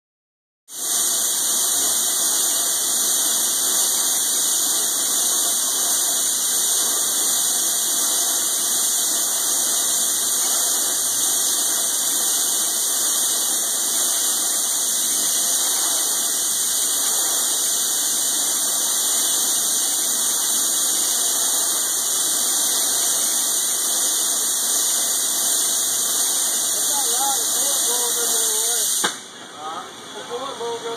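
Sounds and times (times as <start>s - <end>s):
machine hiss and whine: 0.7s - 30.9s.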